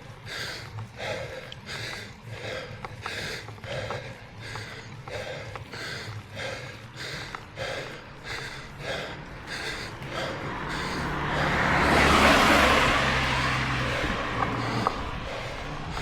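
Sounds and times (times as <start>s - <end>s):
motor vehicle passing: 0.0s - 16.0s
person panting heavily: 0.0s - 16.0s.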